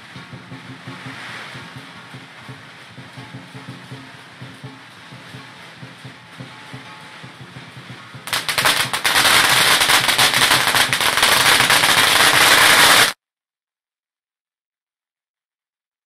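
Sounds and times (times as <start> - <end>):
firecrackers crackling: 0.0 - 13.2.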